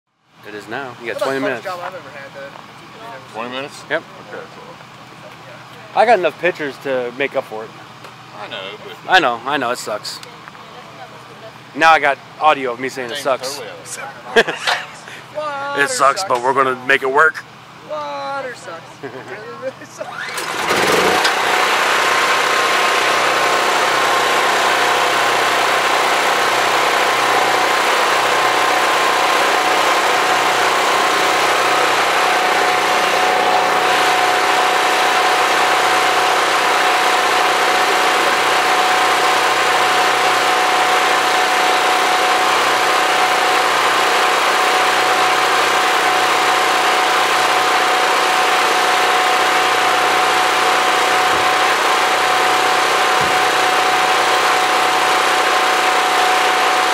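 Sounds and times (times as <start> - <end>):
generator engine running: 0.3 - 56.9.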